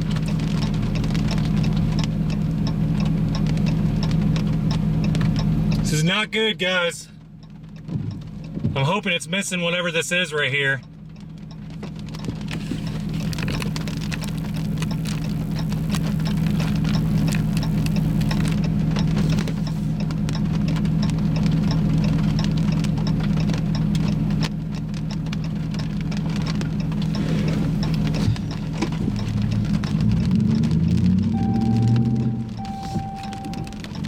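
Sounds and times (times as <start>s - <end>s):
rain drumming on car roof: 0.0s - 34.0s
vehicle low hum: 0.0s - 34.0s.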